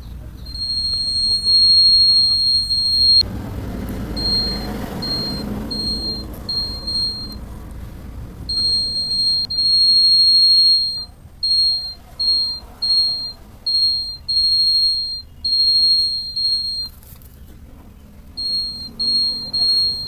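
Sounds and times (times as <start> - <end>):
electronic alarm buzzer beeping: 0.4 - 3.3, 4.2 - 7.4, 8.5 - 16.9, 18.4 - 20.0.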